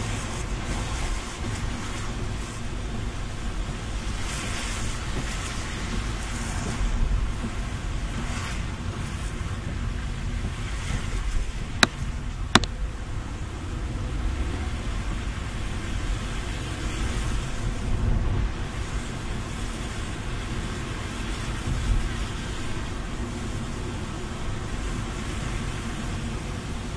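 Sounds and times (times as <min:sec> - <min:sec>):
car running noise: 0:00.0 - 0:26.9
tyres hissing on wet road: 0:00.0 - 0:26.9.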